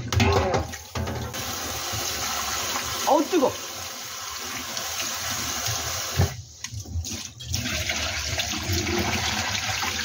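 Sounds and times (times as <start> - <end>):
tap water running into bowl: 0.0 - 10.0
water pouring into sink: 0.0 - 10.0.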